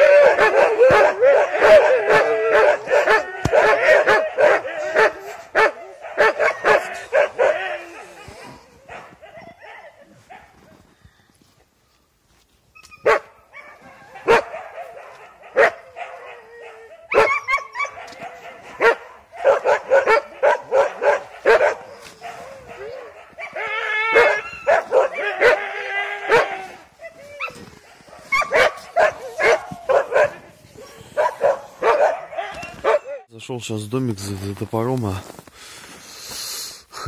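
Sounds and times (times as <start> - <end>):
dogs barking and yelping: 0.0 - 10.8, 12.7 - 33.3.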